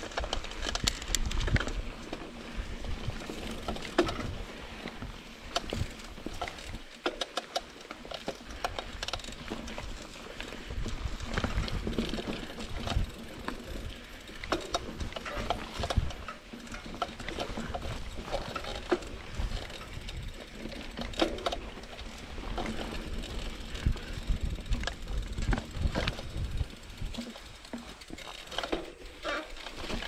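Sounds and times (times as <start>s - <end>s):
wind rumble on microphone: 0.0s - 6.8s, 9.0s - 27.6s
tyres rolling on dirt: 0.0s - 30.0s.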